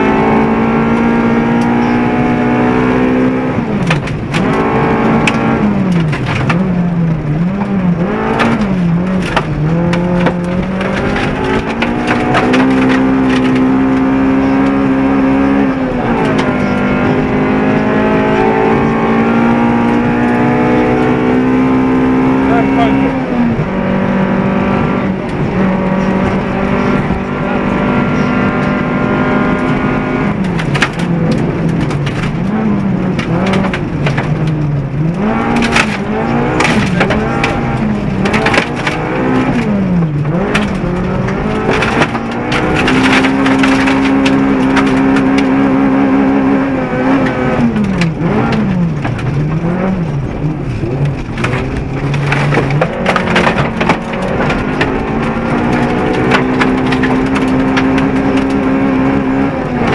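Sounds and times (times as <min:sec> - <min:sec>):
gravel striking car: 0:00.0 - 0:59.9
rally car engine revving: 0:00.0 - 0:59.9.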